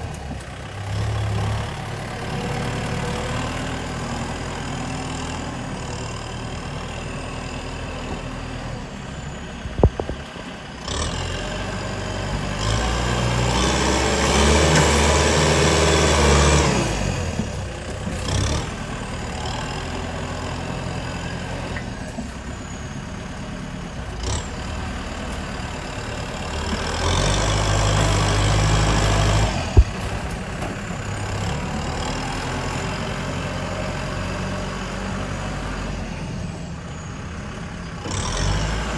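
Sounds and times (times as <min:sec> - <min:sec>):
heavy diesel machinery engine: 0:00.0 - 0:38.9.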